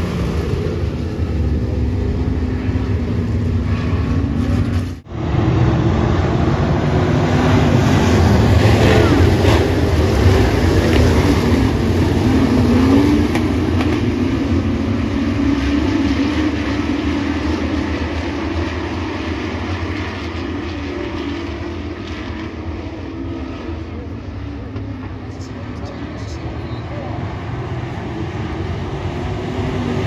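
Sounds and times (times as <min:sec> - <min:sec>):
race truck engines: 0:00.0 - 0:30.0.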